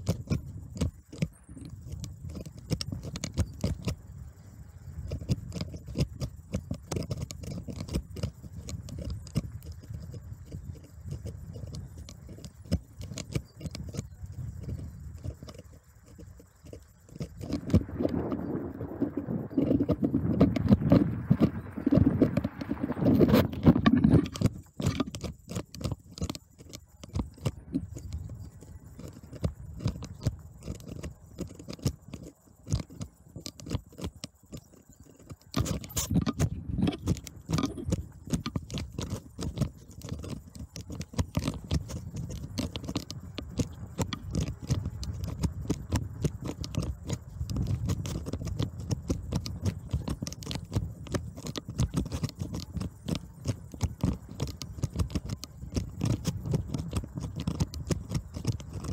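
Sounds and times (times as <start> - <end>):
bicycle rattling on rough ground: 0.0 - 58.9
wind rumble on microphone: 0.0 - 58.9.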